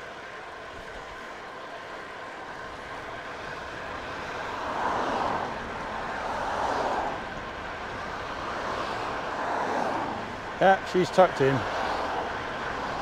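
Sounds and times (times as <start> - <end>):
cars passing: 0.0 - 13.0
road and wind rumble: 0.0 - 13.0.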